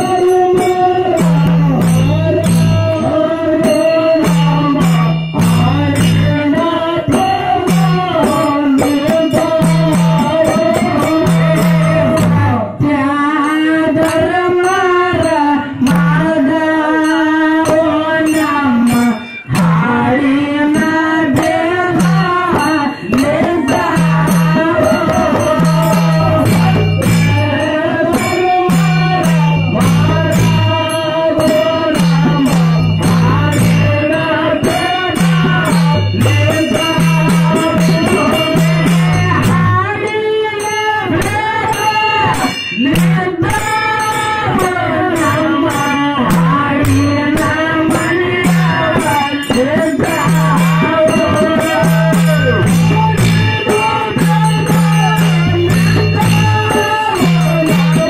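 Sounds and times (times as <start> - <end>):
constant percussion: 0.0 - 58.0
person singing: 0.0 - 58.0.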